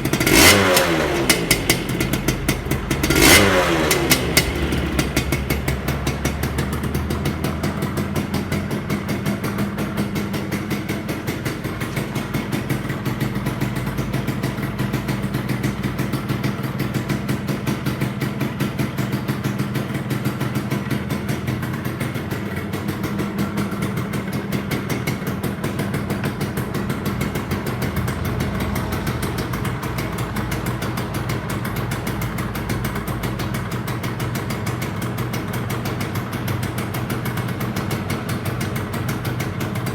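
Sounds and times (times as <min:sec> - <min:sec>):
two-stroke motorcycle engine idling: 0:00.0 - 0:39.9.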